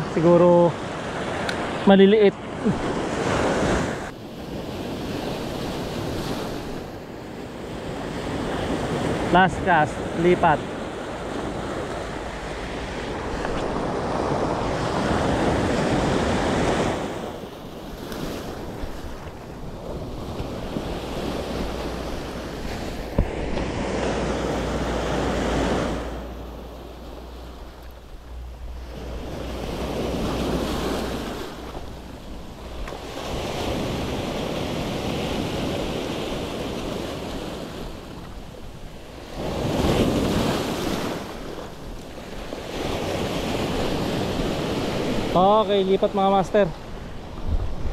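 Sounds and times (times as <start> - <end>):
waves breaking on stony beach: 0.0 - 47.9
wind rumbling on microphone: 2.6 - 45.4, 46.8 - 47.9.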